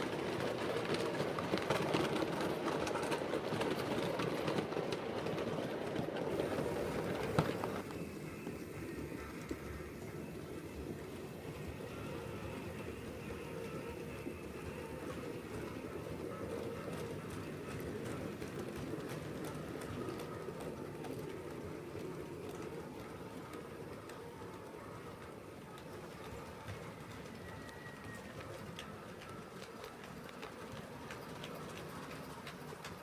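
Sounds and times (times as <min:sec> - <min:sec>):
model train rumbling on track: 0:00.0 - 0:33.0.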